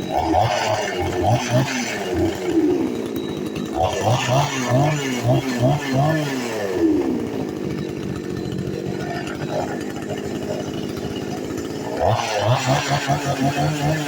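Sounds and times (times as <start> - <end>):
chainsaw engine idling and revving: 0.0 - 14.0.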